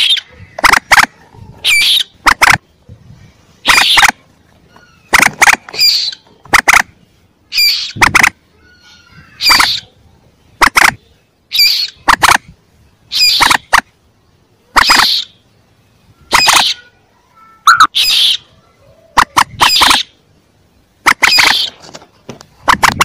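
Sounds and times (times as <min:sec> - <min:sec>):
moorhen squawking calls: 0:00.0 - 0:02.7, 0:03.5 - 0:13.9, 0:14.7 - 0:15.5, 0:16.1 - 0:17.0, 0:17.6 - 0:20.2, 0:21.0 - 0:21.9.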